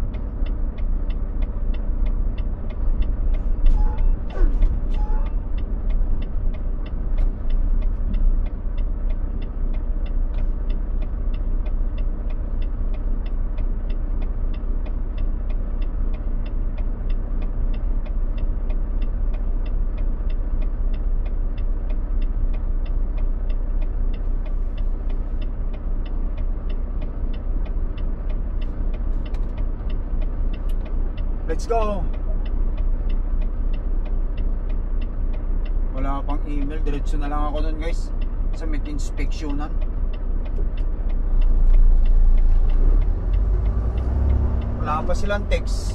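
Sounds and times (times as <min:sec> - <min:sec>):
turn-signal flasher ticking: 0:00.0 - 0:45.9.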